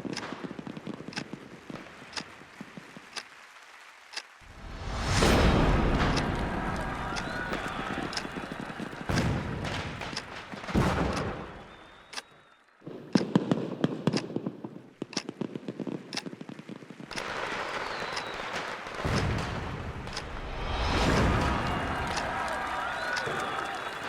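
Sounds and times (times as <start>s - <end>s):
fireworks bangs and crackling: 0.0s - 3.8s, 4.4s - 24.0s.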